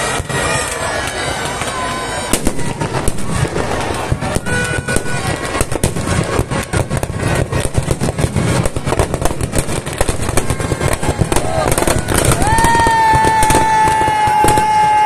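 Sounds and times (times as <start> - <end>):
firecrackers banging: 0.0 - 15.0.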